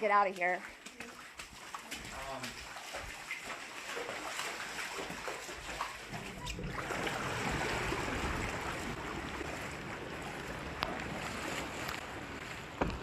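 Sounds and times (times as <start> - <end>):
rushing floodwater: 0.7 - 13.0.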